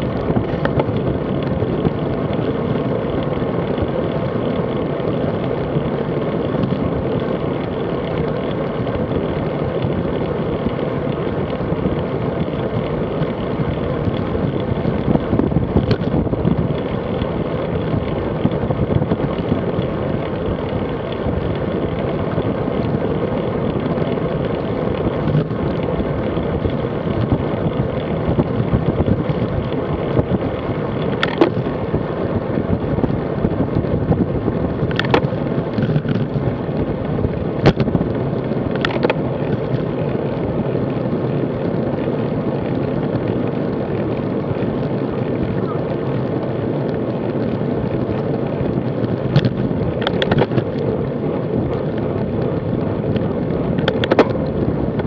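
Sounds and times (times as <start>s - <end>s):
bike tyre road noise: 0.0s - 55.0s
wind on microphone: 0.0s - 55.0s.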